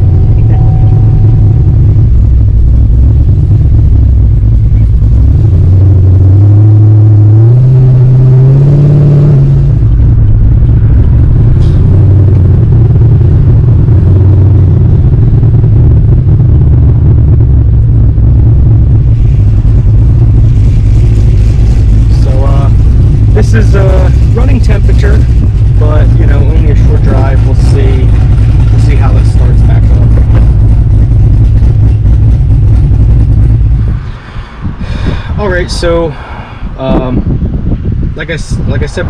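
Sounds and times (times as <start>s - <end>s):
car engine revving and cruising: 0.0s - 39.0s.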